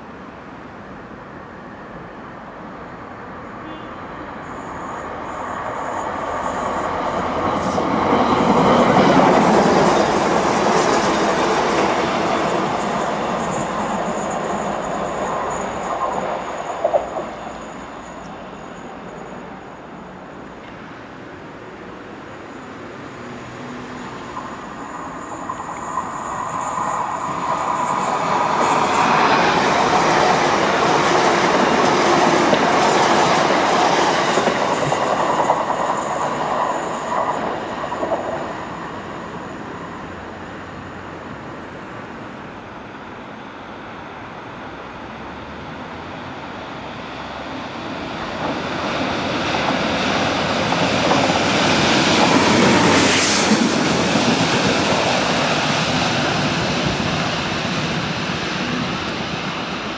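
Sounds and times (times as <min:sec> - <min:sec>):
rail vehicle approaching: 0:00.0 - 0:59.9
train passing through station: 0:00.0 - 0:59.9.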